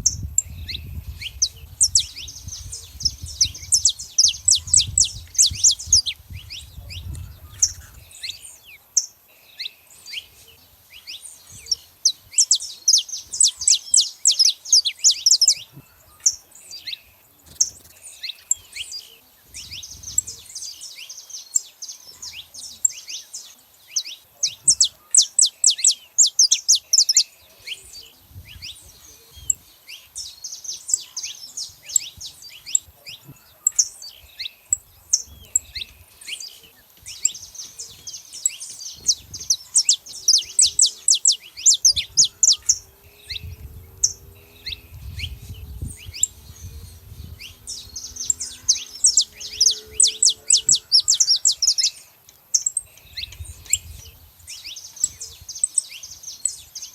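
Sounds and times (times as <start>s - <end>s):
flock of finches chirping: 0.0s - 56.9s.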